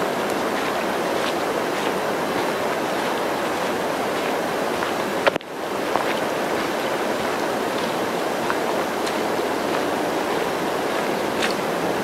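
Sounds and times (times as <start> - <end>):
rain falling in forest: 0.0 - 12.0.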